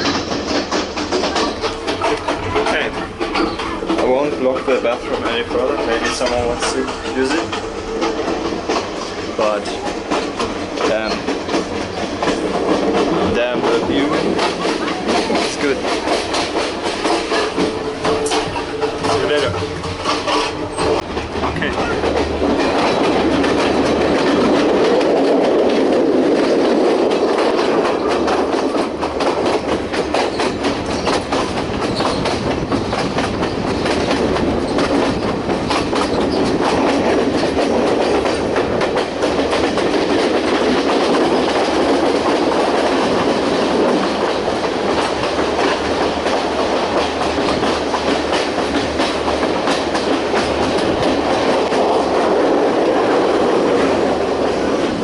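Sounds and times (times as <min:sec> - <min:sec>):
train carriage rumbling: 0:00.0 - 0:55.0
wheels clattering over rails: 0:00.0 - 0:55.0.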